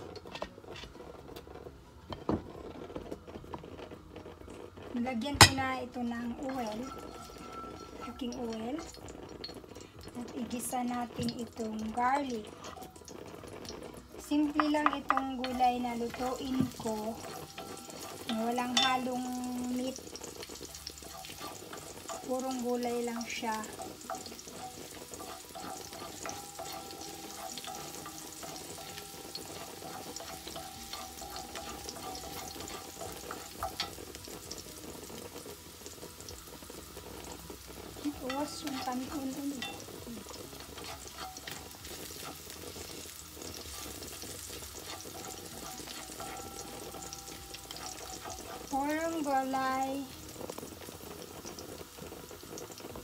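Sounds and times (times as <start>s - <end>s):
garlic sizzling in oil: 0.0s - 53.0s
wooden spoon scraping a pan: 0.0s - 53.0s.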